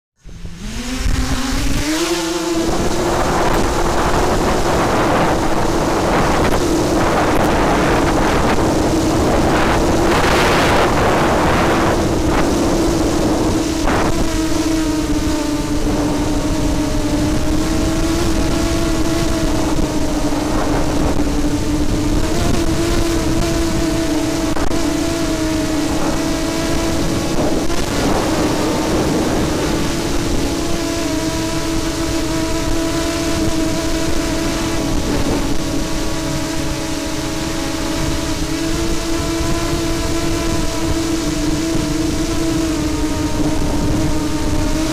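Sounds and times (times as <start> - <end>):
model aircraft motor whine: 0.2 - 44.9
wind gusts on microphone: 0.2 - 44.9.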